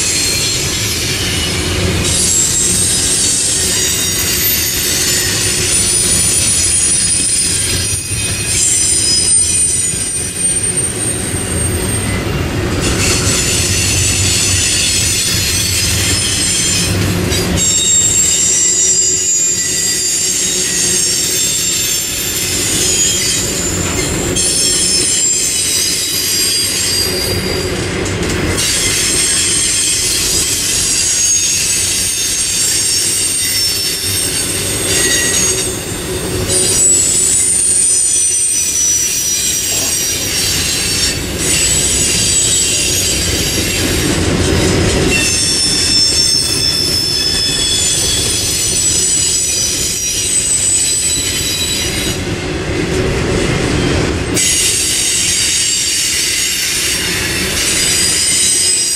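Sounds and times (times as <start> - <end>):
high-pitched wheel squeal: 0.0 - 27.8, 28.6 - 52.2, 54.4 - 58.9
train wheels rumbling on rail: 0.0 - 58.9.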